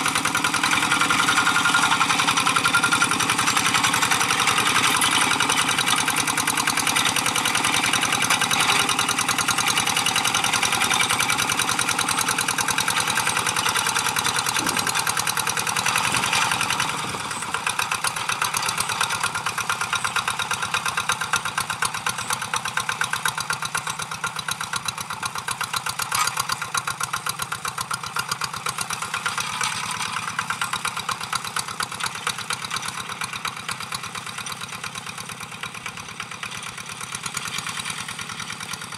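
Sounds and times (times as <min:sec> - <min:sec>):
hand tractor engine running: 0:00.0 - 0:38.9.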